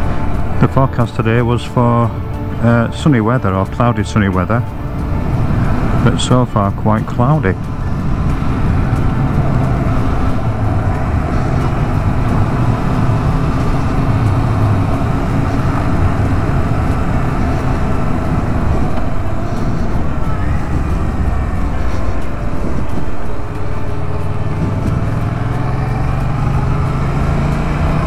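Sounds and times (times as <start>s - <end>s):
wind and road noise: 0.0s - 28.0s
motorcycle engine running: 4.4s - 28.0s.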